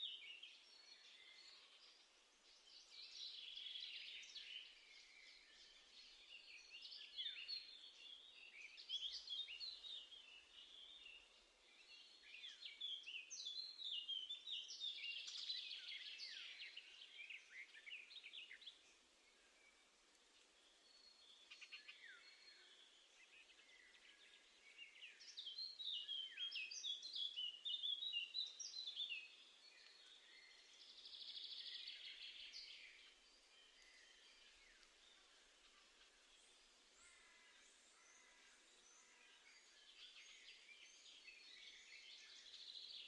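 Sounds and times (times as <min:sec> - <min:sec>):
songbirds twittering: 0:00.0 - 0:43.0.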